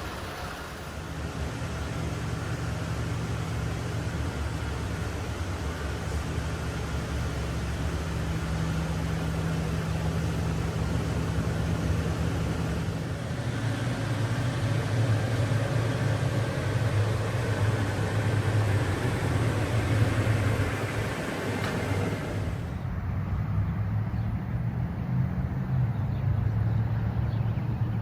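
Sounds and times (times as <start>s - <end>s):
road noise: 0.0s - 28.0s
vehicle engine running: 0.0s - 28.0s.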